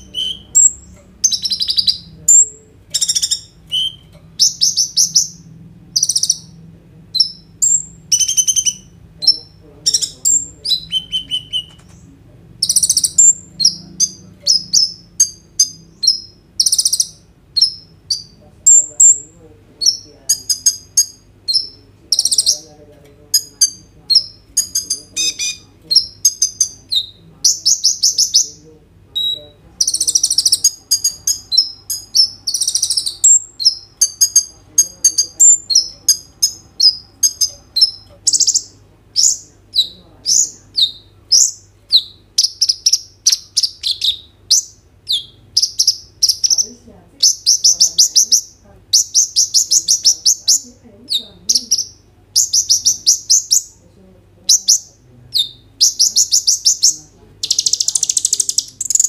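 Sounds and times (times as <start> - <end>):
sunbird singing trills: 0.0 - 12.0, 12.6 - 22.7, 23.4 - 28.6, 29.2 - 53.8, 54.5 - 59.0.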